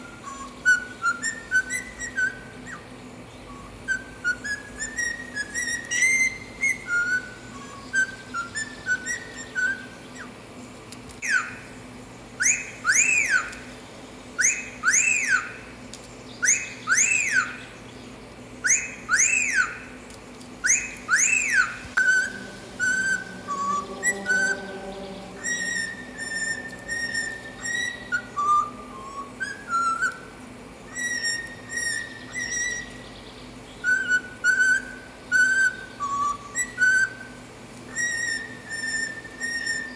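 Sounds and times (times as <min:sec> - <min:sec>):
cockatiel whistling: 0:00.0 - 0:02.9, 0:03.5 - 0:10.3, 0:11.2 - 0:11.6, 0:12.4 - 0:13.6, 0:14.4 - 0:15.6, 0:16.4 - 0:17.7, 0:18.6 - 0:20.0, 0:20.6 - 0:30.3, 0:30.9 - 0:33.0, 0:33.8 - 0:39.9.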